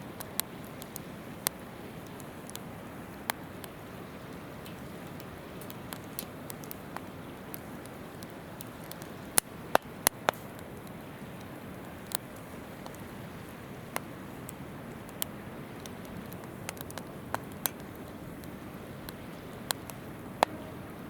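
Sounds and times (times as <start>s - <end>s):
campfire crackling and popping: 0.0s - 21.0s
river babbling: 0.0s - 21.0s.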